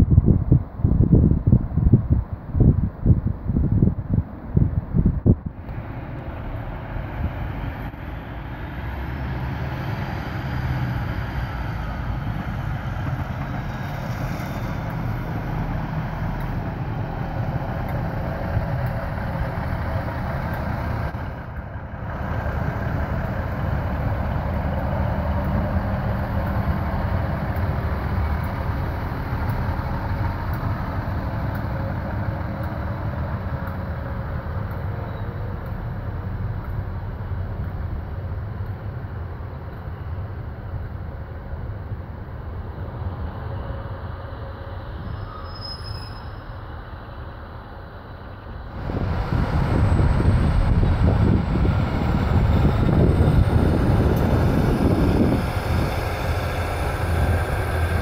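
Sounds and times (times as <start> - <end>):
diesel train engines running: 0.0 - 58.0
wheel and rail noise: 0.0 - 58.0.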